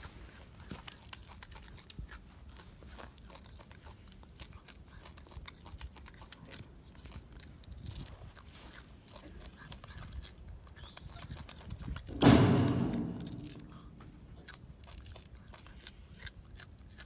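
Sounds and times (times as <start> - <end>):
monkey chewing and crunching: 0.0 - 12.2, 13.4 - 17.0.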